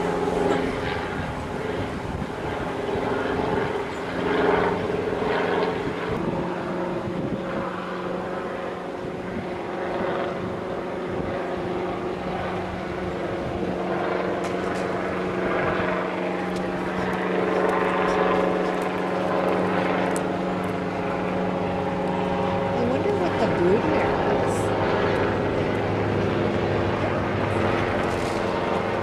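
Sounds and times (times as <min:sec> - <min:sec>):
steady motor drone: 0:00.0 - 0:29.0.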